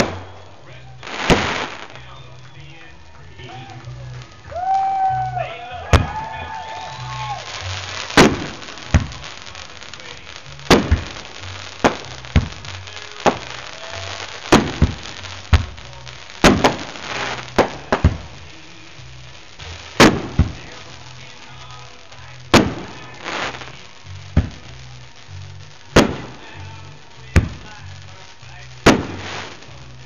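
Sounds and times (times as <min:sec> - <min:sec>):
fireworks bangs: 0:00.0 - 0:30.0
music with bass line: 0:00.0 - 0:30.0.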